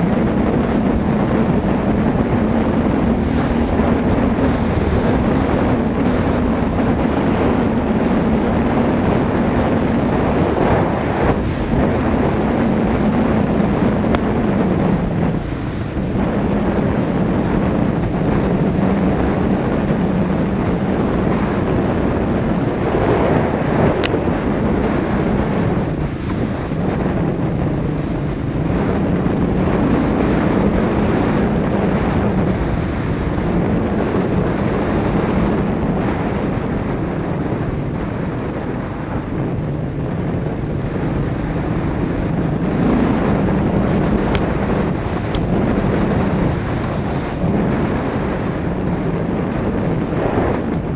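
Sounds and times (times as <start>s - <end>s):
engine drone: 0.0s - 50.9s
wind buffeting microphone: 0.0s - 50.9s.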